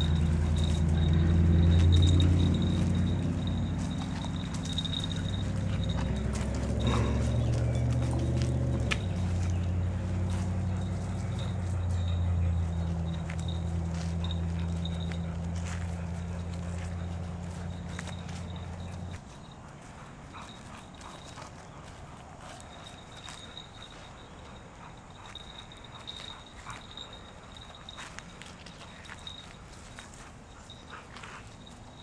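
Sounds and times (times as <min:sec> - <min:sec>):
little bell ringing: 0:00.0 - 0:21.7, 0:22.5 - 0:32.0.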